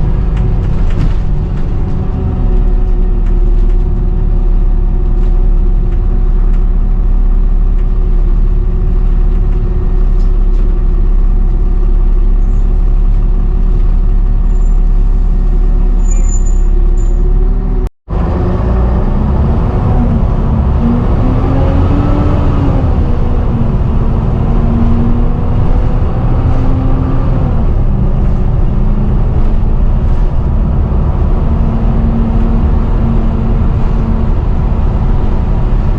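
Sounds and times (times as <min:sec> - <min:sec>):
bus engine drone: 0:00.0 - 0:35.9.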